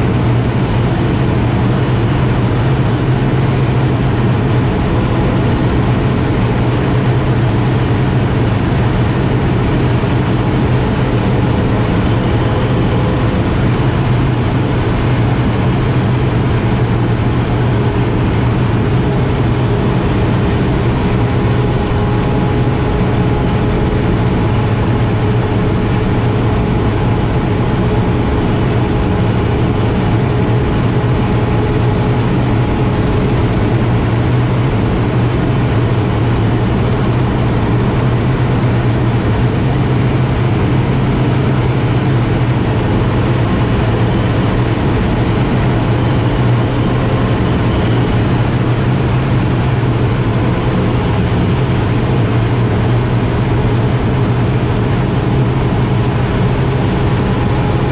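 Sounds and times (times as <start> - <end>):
turboprop engine drone: 0.0 - 57.9.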